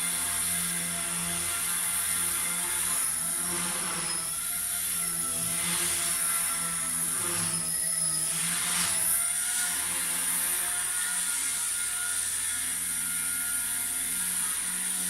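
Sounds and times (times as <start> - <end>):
toy helicopter rotors whirring: 0.0 - 15.0.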